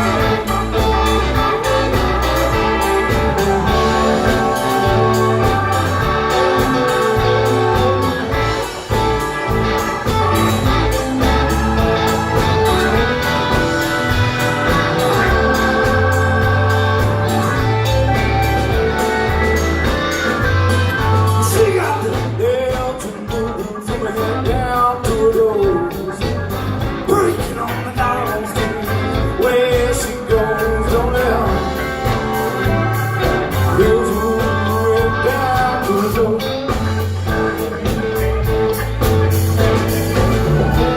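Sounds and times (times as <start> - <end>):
person singing: 0.0 - 37.2
live blues band playing: 0.0 - 40.9.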